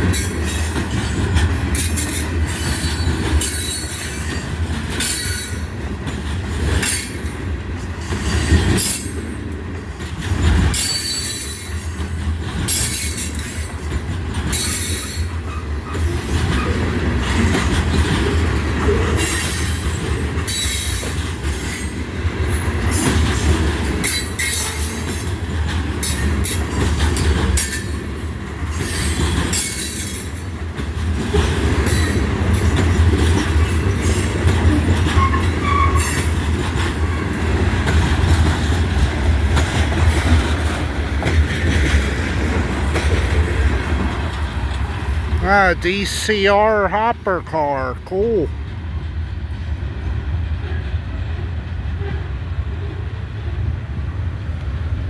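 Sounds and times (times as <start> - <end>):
wheels clacking over rail joints: 0.0 - 45.3
train cars rumbling: 0.0 - 55.0.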